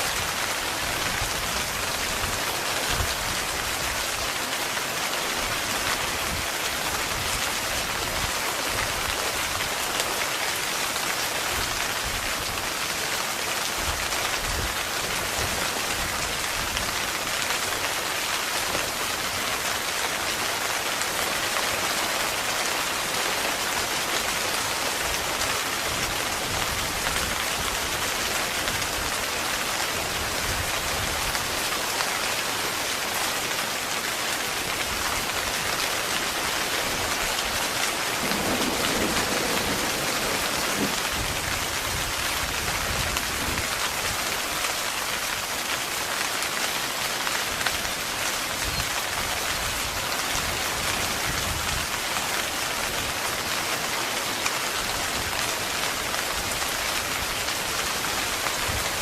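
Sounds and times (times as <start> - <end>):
heavy rain on tent fabric: 0.0 - 59.0.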